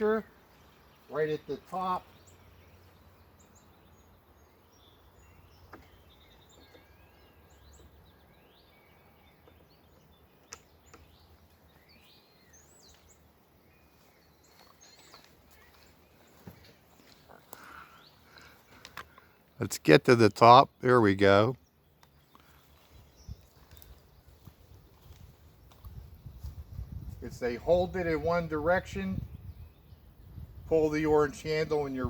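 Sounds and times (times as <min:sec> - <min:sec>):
faint birds chirping: 0:00.0 - 0:32.0.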